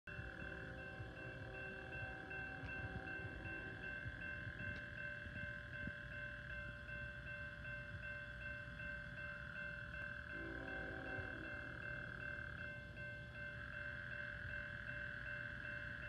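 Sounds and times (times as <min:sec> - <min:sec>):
railroad crossing bell ringing: 0:00.1 - 0:16.0.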